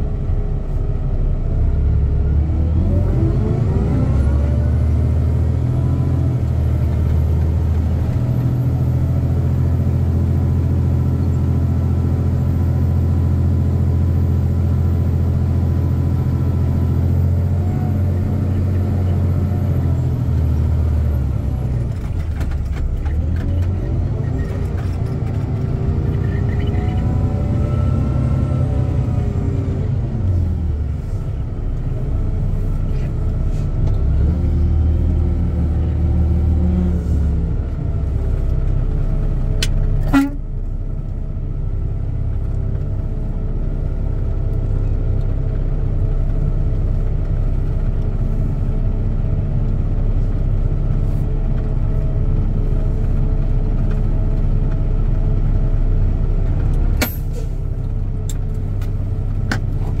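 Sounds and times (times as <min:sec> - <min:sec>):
truck diesel engine running: 0:00.0 - 1:00.0.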